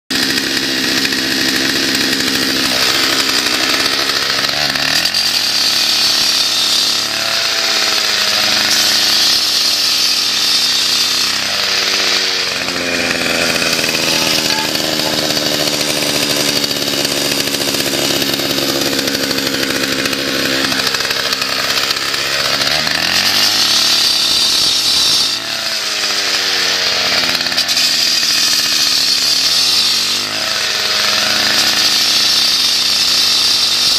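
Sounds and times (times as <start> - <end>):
blade hissing through concrete: 0.1 - 33.9
cut-off saw engine at high revs: 0.1 - 33.9.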